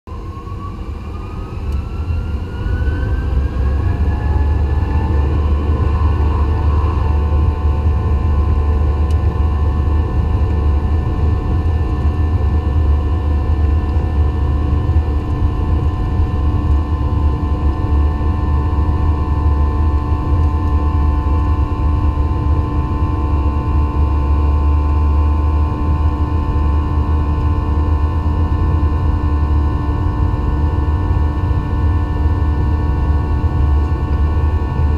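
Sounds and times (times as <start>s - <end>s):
airplane cabin rumble: 0.1s - 34.9s
jet engine whine: 0.1s - 34.9s.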